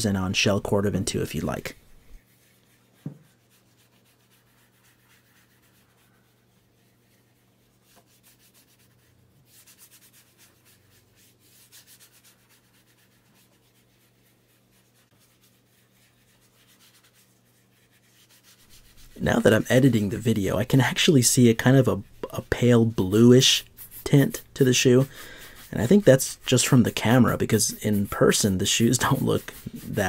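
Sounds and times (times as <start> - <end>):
gloved fingers rubbing leather: 1.4 - 30.0.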